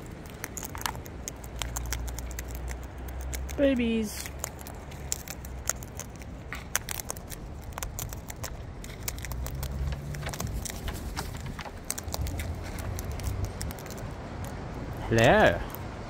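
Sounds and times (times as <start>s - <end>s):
bird cracking seed husks: 0.0s - 15.0s.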